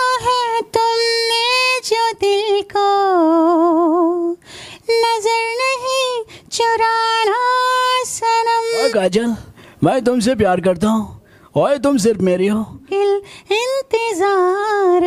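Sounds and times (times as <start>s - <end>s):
man singing unaccompanied: 0.0s - 2.9s, 3.5s - 15.0s.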